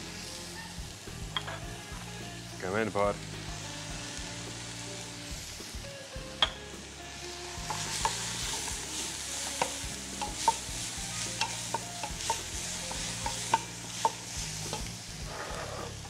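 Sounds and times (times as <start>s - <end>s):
food sizzling in a pot: 0.0s - 16.0s.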